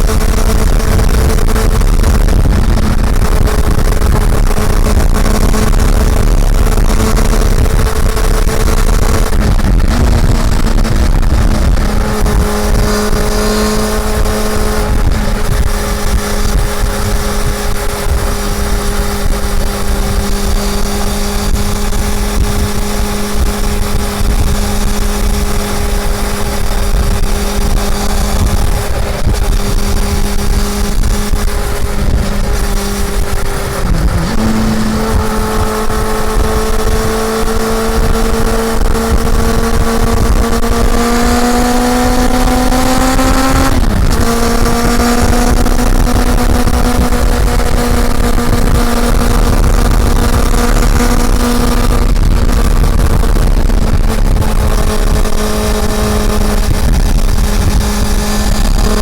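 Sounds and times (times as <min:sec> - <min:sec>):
low wind rumble: 0:00.0 - 0:59.0
motorcycle engine running: 0:00.0 - 0:59.0.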